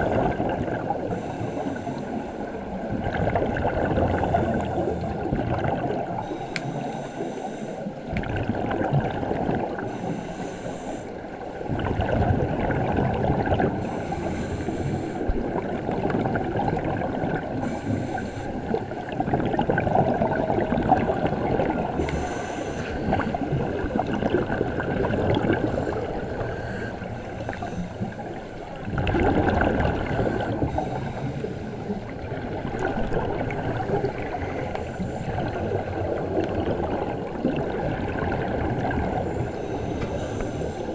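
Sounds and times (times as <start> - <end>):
underwater bubbles gurgling: 0.0 - 40.9.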